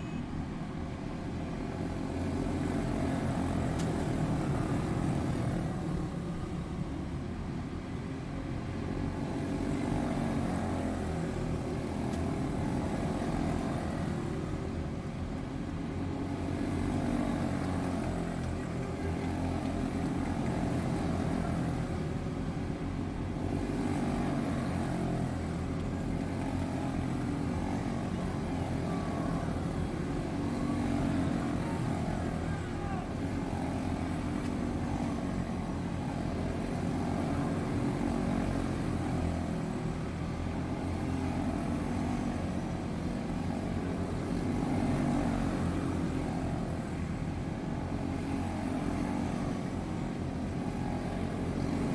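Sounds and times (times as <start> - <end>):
race car engines buzzing: 0.0 - 51.9.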